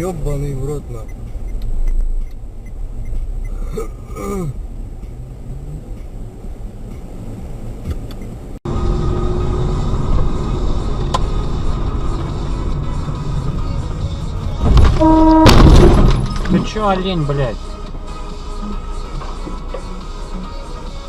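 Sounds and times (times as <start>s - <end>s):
car driving rumble: 0.0s - 21.0s.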